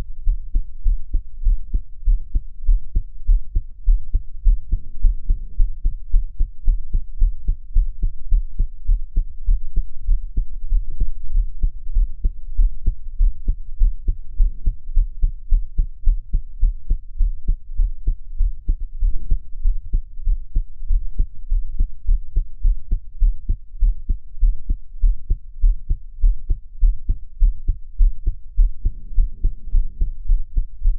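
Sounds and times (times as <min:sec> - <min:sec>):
heartbeat: 0:00.0 - 0:30.9.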